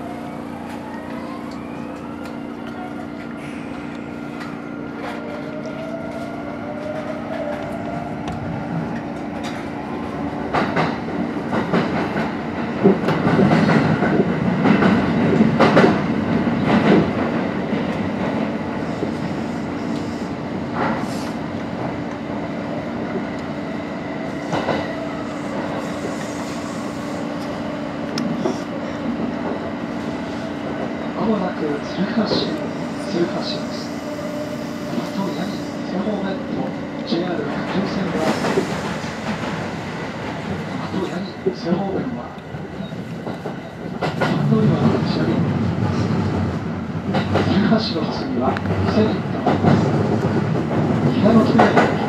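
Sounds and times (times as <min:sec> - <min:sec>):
train running rumble: 0:01.6 - 0:52.0.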